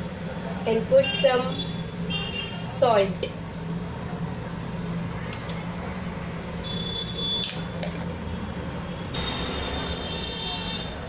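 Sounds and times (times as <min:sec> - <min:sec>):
gas burner hum and hiss: 0:00.0 - 0:11.0.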